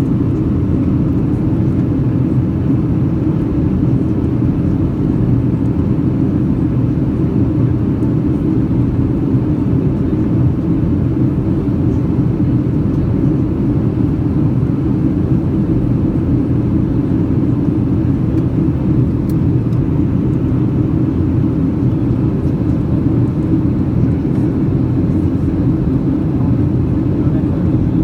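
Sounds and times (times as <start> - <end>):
jet engines droning: 0.0 - 28.0.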